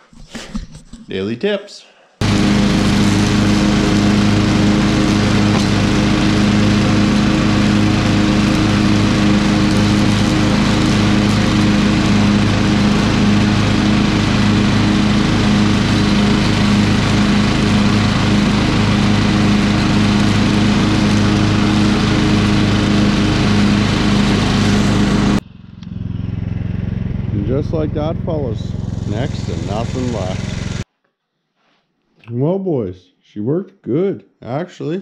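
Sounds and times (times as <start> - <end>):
riding lawn mower running: 2.2 - 30.8.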